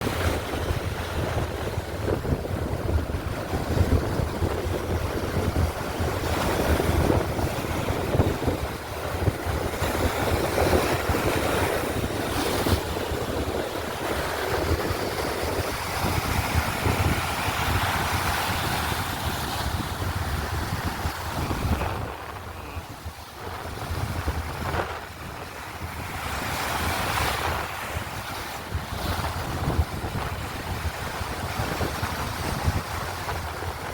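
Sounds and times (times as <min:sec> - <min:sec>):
sea waves washing onto beach: 0:00.0 - 0:33.9
wind buffeting microphone: 0:00.0 - 0:33.9.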